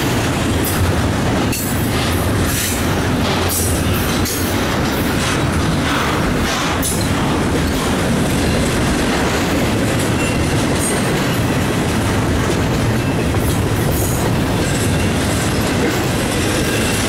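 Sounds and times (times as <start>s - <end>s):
train wheels clicking on rail: 0.0s - 17.0s.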